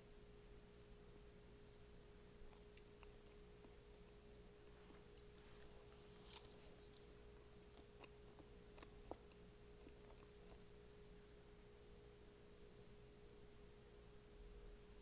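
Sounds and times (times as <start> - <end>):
faint high hum: 0.0 - 15.0.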